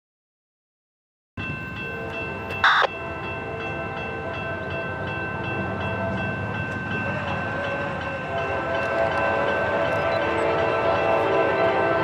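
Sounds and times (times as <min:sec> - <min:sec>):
train rumble: 0:01.4 - 0:12.0
distant train horn: 0:01.9 - 0:12.0.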